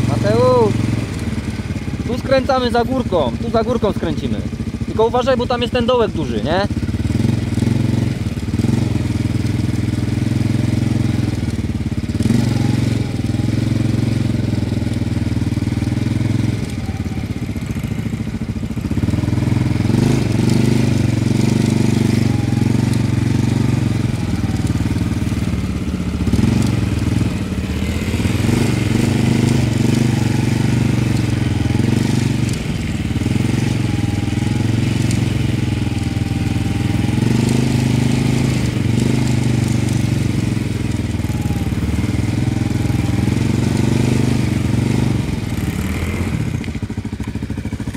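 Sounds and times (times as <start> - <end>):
quad bike engine running: 0.0 - 47.9.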